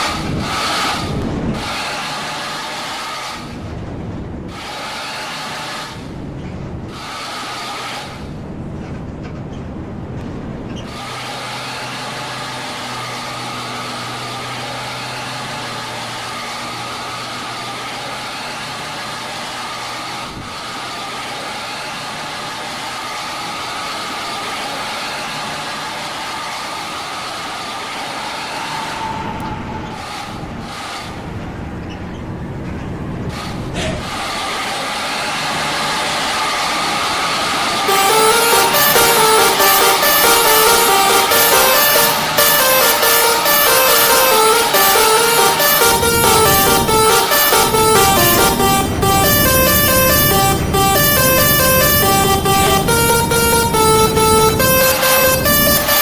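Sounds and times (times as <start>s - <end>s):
large vehicle engine running: 0.0s - 56.0s
road traffic noise: 0.0s - 56.0s.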